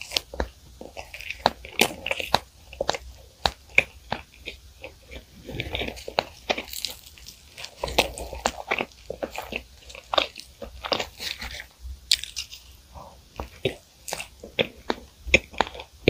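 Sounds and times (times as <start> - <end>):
pastry tearing: 0.0 - 15.9
pastry crunching when chewed: 0.0 - 16.0.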